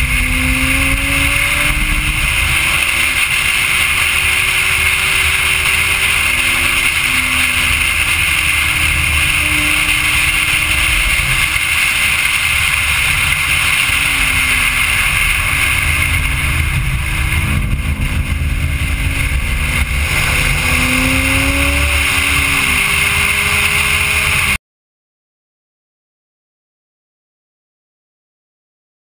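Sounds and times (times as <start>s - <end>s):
car engine note: 0.0s - 24.6s
wind and road noise: 0.0s - 24.6s.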